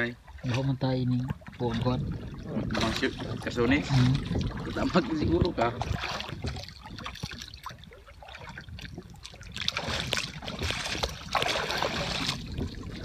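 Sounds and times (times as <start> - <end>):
water splashing against boat hull: 0.0 - 13.0.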